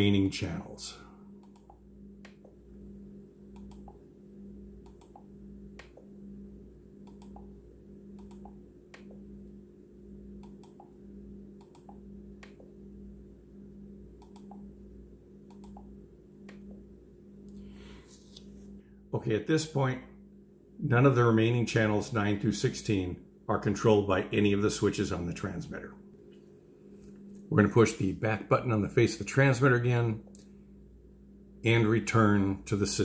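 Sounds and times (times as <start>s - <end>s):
faint pulsing low hum: 0.0s - 33.0s.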